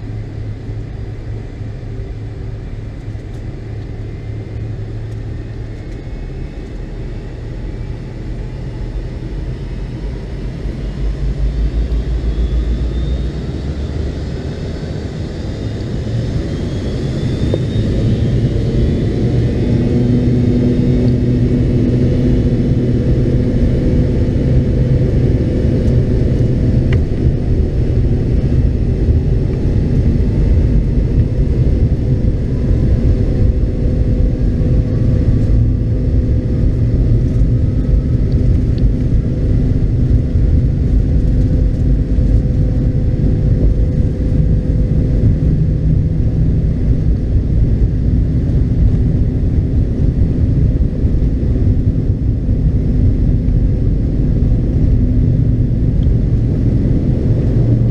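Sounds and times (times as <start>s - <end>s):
airplane cabin engine roar: 0.0s - 57.9s
faint rising whine: 0.0s - 57.9s.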